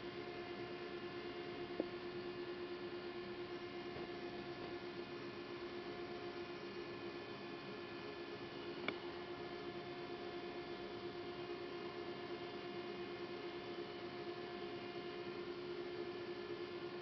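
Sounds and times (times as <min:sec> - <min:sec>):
lathe electrical hum: 0:00.0 - 0:17.0.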